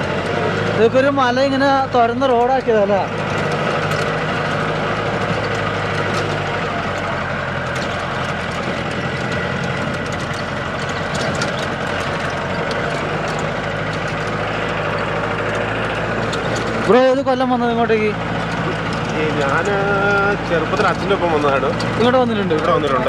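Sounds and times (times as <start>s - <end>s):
jeep engine running: 0.0s - 23.0s
vehicle knocks and rattles: 0.0s - 23.0s.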